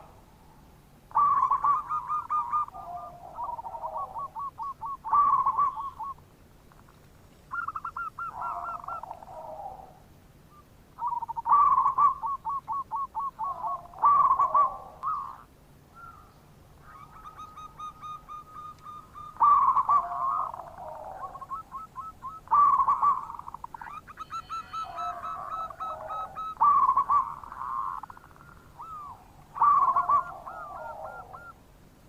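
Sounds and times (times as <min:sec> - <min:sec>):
doves cooing: 0:00.0 - 0:31.7.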